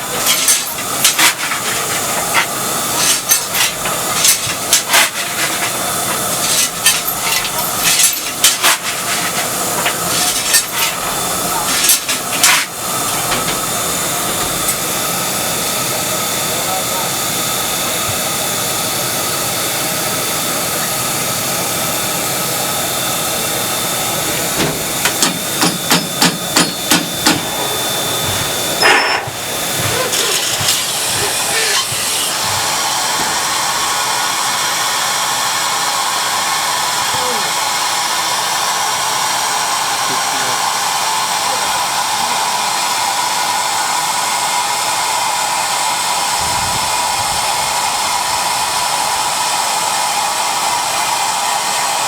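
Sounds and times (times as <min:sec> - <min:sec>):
steam hissing from locomotive: 0:00.0 - 0:52.0.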